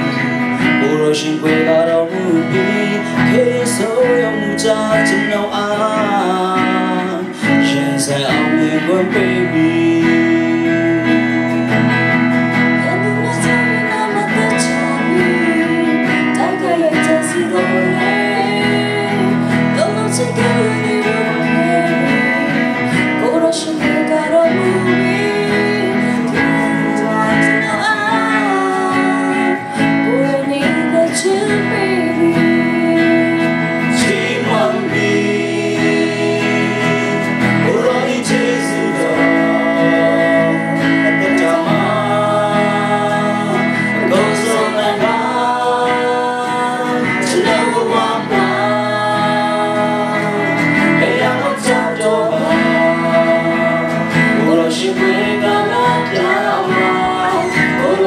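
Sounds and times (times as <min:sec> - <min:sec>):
instrumental accompaniment: 0:00.0 - 0:58.0
man and woman singing gospel song: 0:00.0 - 0:58.0.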